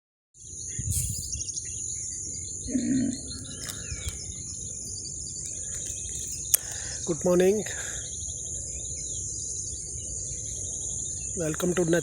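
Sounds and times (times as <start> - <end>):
birds chirping: 0.4 - 12.0
crickets chirping: 0.4 - 12.0.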